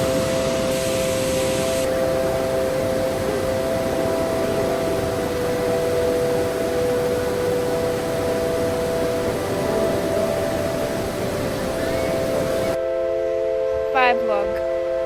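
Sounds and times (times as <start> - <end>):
steady whooshing hum: 0.0 - 15.0.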